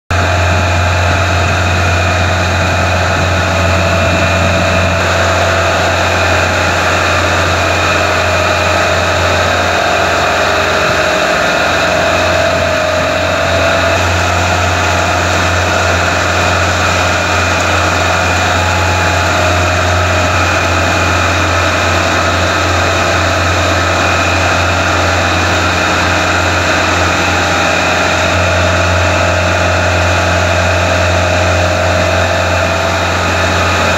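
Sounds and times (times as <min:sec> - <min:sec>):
low machinery hum: 0:00.1 - 0:33.9
water churning in tank: 0:00.1 - 0:33.9
water splashing over weirs: 0:00.1 - 0:33.9.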